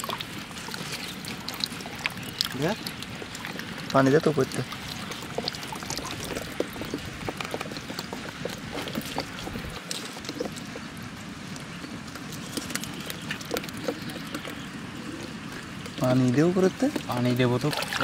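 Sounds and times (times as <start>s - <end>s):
water pouring and dripping: 0.0s - 18.0s.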